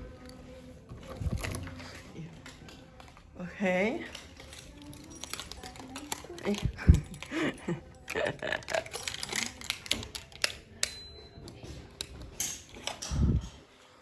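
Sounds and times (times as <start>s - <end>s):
clicks and knocks of objects handled: 0.1s - 14.0s.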